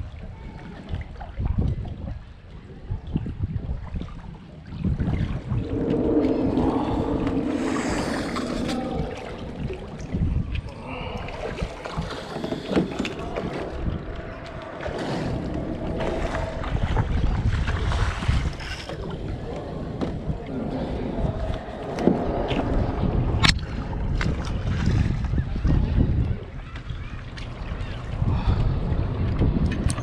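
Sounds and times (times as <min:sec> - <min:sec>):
water lapping against hull: 0:00.0 - 0:30.0
wind buffeting microphone: 0:00.0 - 0:30.0.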